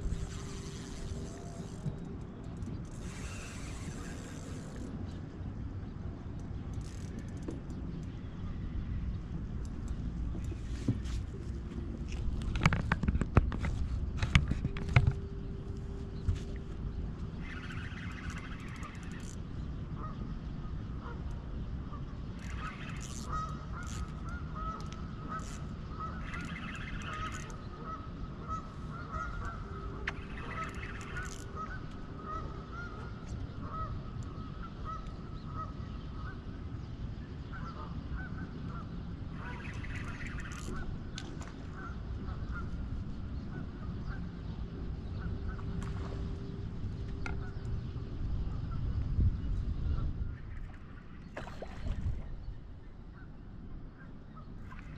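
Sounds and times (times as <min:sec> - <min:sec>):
low steady rumble: 0:00.0 - 0:54.9.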